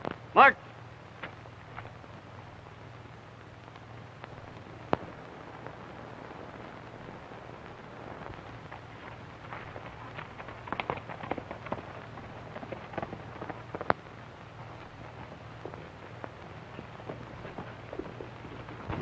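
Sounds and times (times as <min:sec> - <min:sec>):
film crackles and pops: 0:00.0 - 0:19.0
low hum and hiss: 0:00.0 - 0:19.0.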